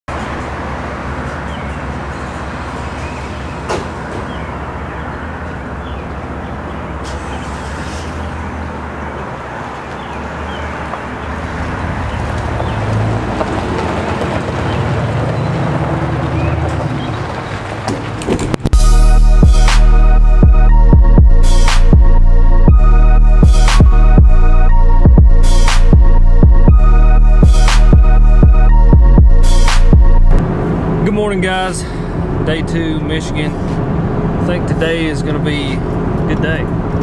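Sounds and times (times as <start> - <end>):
vehicle engine hum: 0.1 - 37.0.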